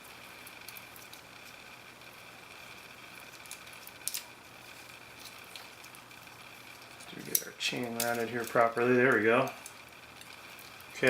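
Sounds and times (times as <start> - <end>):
faint hum and hiss: 0.0 - 11.0
small metal parts clicking: 0.1 - 11.0.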